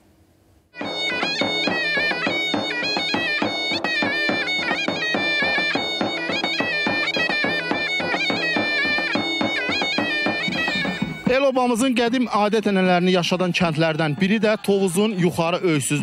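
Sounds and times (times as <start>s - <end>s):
reed pipe melody: 0.7s - 15.8s
drum beating: 0.8s - 16.0s.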